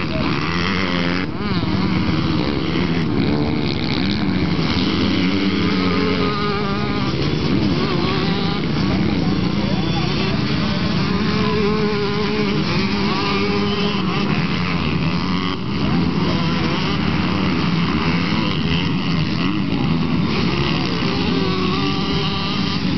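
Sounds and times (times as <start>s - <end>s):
motocross bike engines revving: 0.0s - 22.9s.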